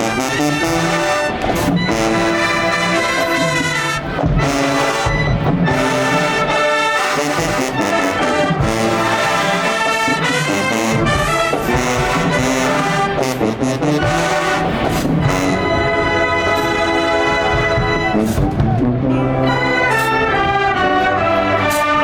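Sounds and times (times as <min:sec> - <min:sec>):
trombones and trumpets playing: 0:00.0 - 0:22.0.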